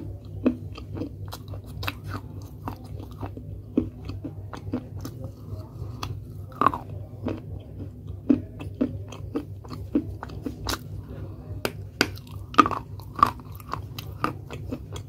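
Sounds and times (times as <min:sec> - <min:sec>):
crunching and chewing clay: 0:00.0 - 0:15.0
low steady hum: 0:00.0 - 0:15.0.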